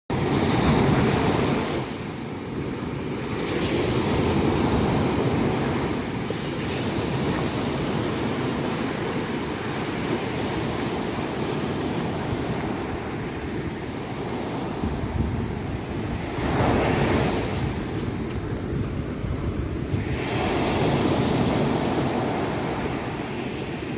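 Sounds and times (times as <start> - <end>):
surf breaking on beach: 0.1 - 23.9
wind buffeting microphone: 0.2 - 23.9.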